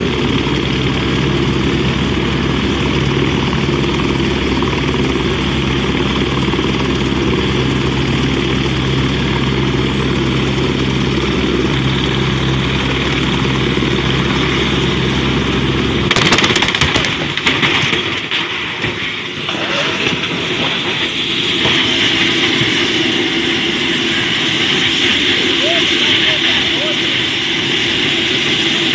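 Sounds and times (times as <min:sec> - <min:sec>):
engine drone: 0:00.0 - 0:28.9.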